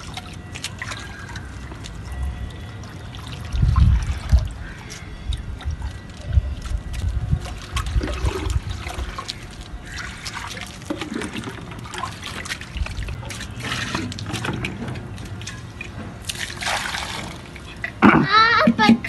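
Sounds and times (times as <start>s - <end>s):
water pouring and splashing: 0.0s - 19.0s.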